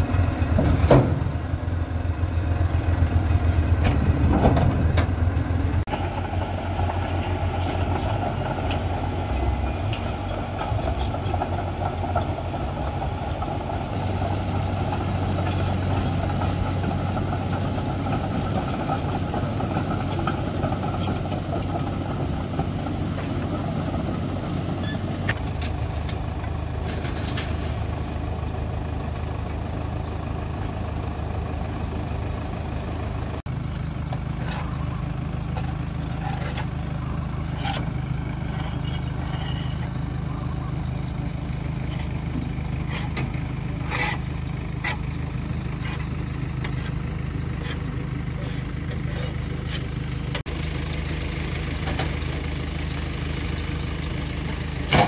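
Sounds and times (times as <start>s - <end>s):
bulldozer diesel engine driving: 0.0s - 55.0s
diesel engine idling: 0.0s - 55.0s.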